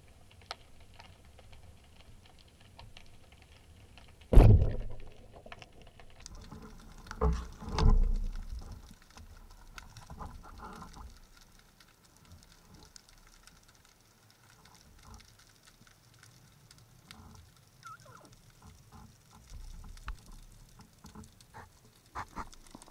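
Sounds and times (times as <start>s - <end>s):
small underwater clicks and taps: 0.3s - 22.9s.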